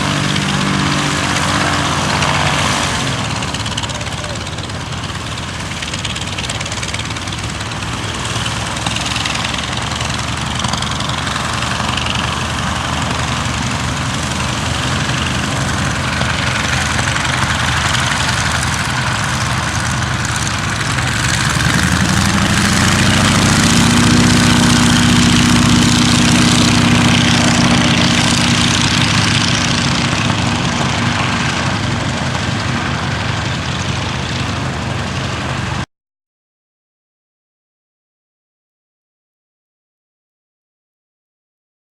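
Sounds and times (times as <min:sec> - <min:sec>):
radial aircraft engine idling: 0:00.0 - 0:35.9.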